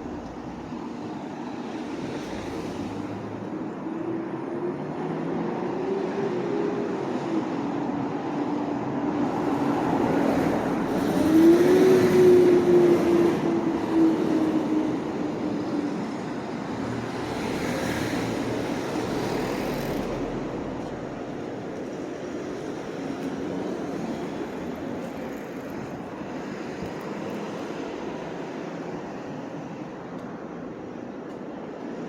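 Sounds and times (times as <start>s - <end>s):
steady street noise: 0.0s - 32.0s.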